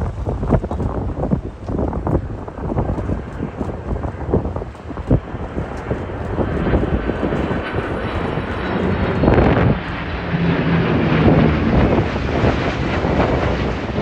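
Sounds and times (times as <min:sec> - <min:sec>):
jet engines in flight: 0:00.0 - 0:14.0
wind buffeting microphone: 0:00.0 - 0:14.0.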